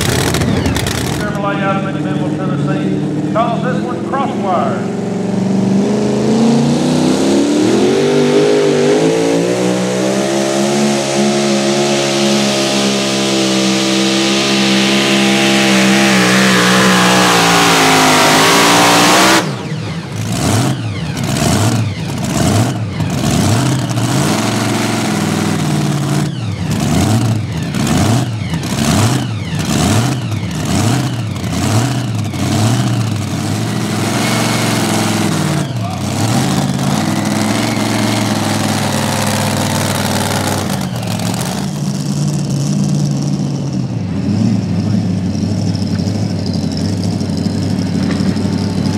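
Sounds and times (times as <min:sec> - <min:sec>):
supercharged truck engine at full throttle: 0:00.0 - 0:48.9.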